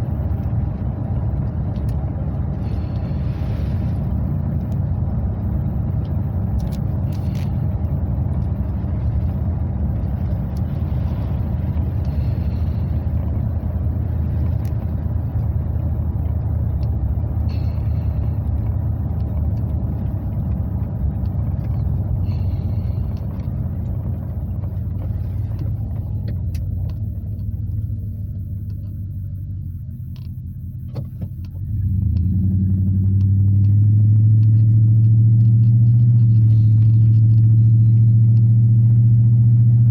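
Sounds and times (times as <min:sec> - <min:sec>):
truck exhaust droning: 0:00.0 - 0:39.9.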